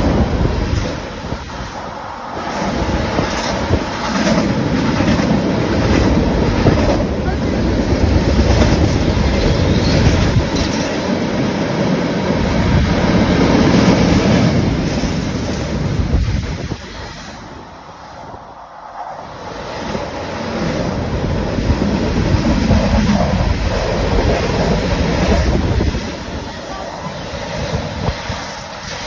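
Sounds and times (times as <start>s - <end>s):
wheels clacking on rail: 0.0s - 17.9s, 19.3s - 29.0s
freight train rumbling past: 0.0s - 29.0s.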